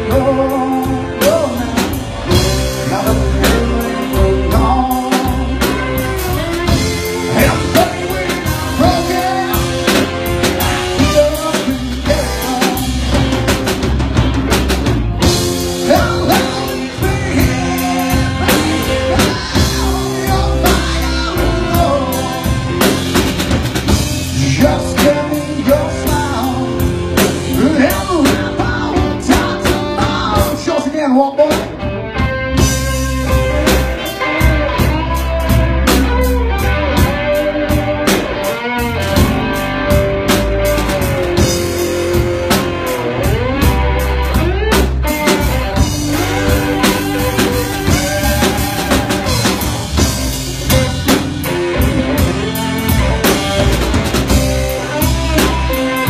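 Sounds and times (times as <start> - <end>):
drum kit: 0.0 - 56.0
lead guitar with bending notes: 0.0 - 56.0.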